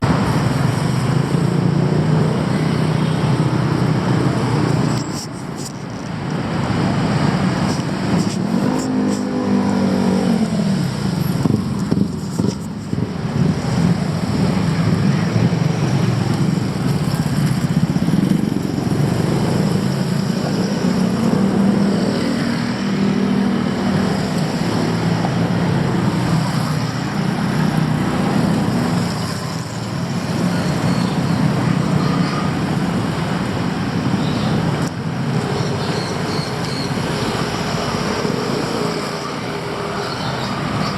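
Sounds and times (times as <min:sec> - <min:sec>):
cars and motorcycles passing: 0:00.0 - 0:40.9.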